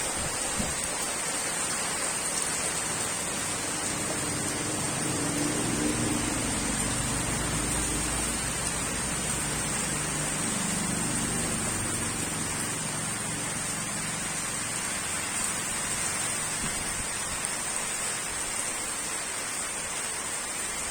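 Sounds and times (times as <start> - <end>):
rain falling on a pond: 0.0 - 20.9.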